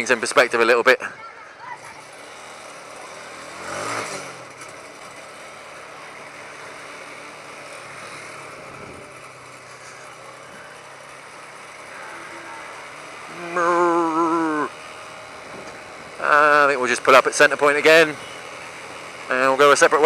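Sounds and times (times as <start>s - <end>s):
motorcycle engine humming: 0.0s - 20.0s
wind and road noise: 0.0s - 20.0s.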